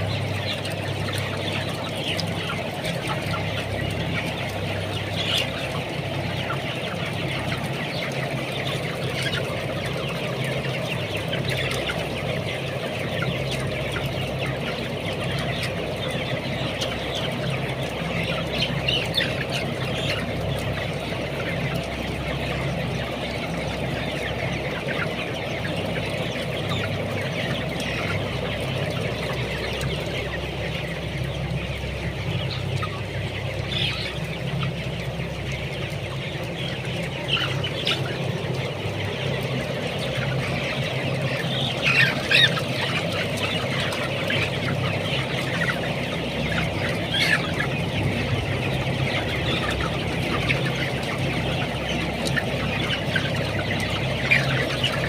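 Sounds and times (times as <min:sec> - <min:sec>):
chickens clucking: 0:00.0 - 0:55.0
loud chicken calls: 0:00.0 - 0:55.0.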